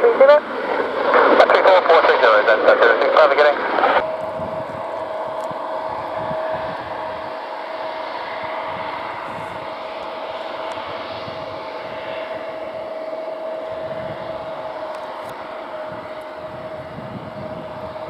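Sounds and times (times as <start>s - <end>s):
jet engines whining: 0.0s - 18.0s.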